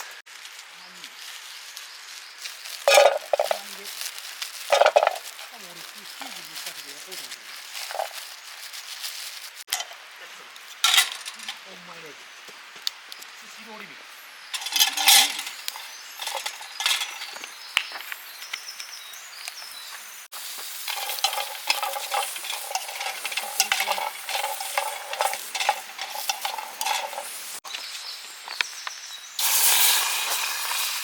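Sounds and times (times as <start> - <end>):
food sizzling on a grill: 0.3 - 13.9, 14.5 - 31.0.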